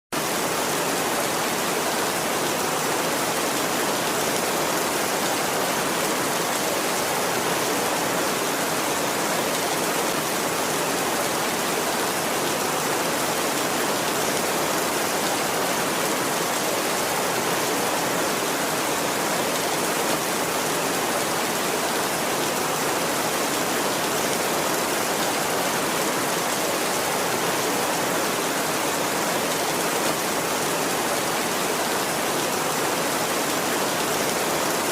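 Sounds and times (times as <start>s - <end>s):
heavy rain on a tin roof: 0.2s - 34.9s.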